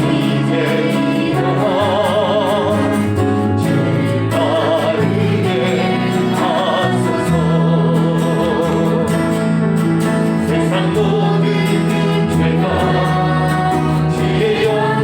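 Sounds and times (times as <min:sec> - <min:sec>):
voices singing with vibrato: 0:00.0 - 0:15.0.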